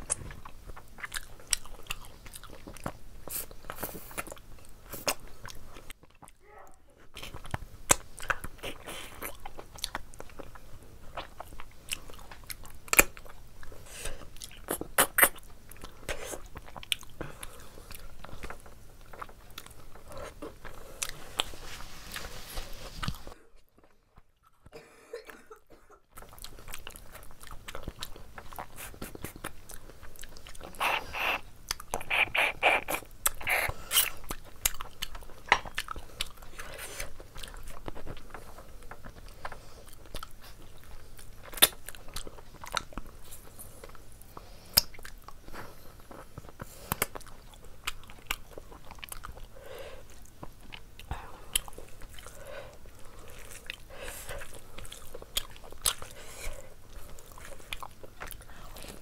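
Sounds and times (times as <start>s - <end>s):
chewing and mouth sounds: 0.0s - 24.7s, 26.1s - 59.0s.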